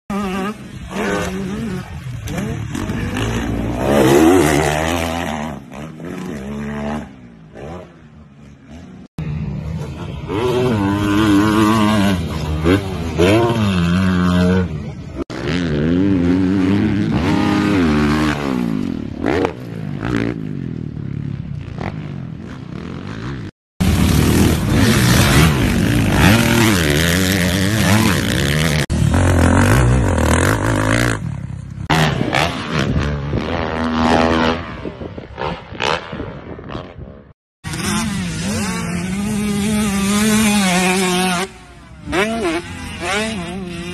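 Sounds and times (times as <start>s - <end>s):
dirt bike engines revving: 0.1s - 43.9s.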